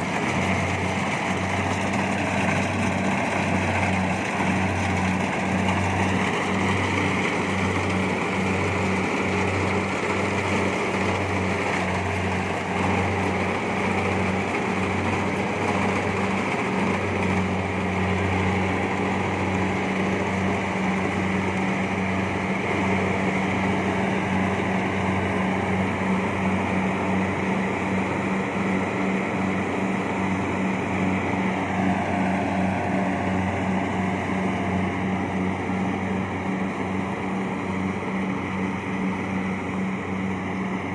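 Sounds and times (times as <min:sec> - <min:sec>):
combine harvester diesel engine drone: 0:00.0 - 0:40.9.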